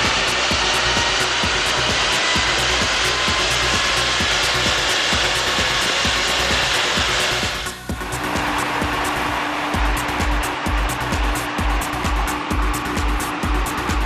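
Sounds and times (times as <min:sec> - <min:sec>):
engine and rollers whirring: 0:00.0 - 0:14.0.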